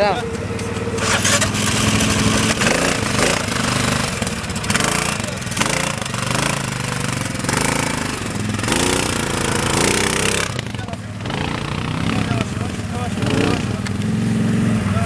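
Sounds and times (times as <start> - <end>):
atv engine running under load: 0.0 - 15.0.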